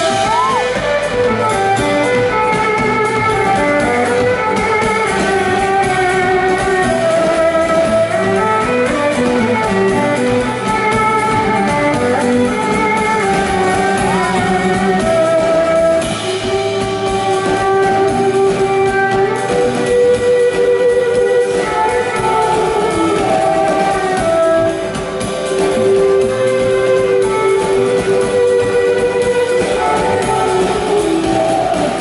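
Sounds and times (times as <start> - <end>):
guitar with long held notes: 0.0 - 32.0
live band playing: 0.0 - 32.0.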